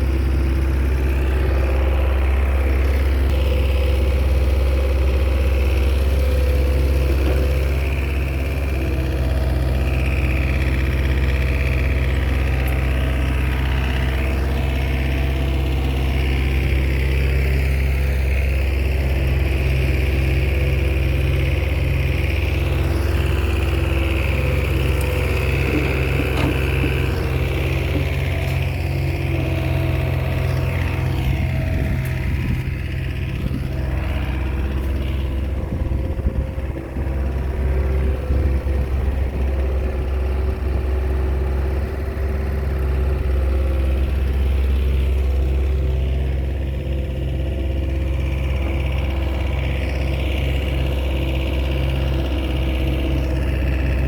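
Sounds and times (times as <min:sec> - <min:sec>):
bulldozer diesel engine running: 0:00.0 - 0:54.0
engine knocking: 0:00.0 - 0:54.0.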